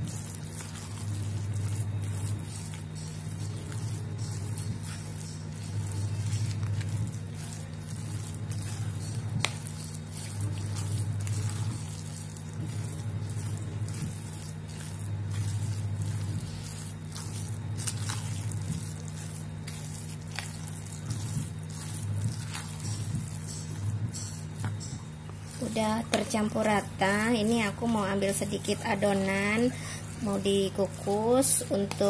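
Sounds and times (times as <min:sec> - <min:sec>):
spoon squelching wet mixture: 0:00.0 - 0:32.0.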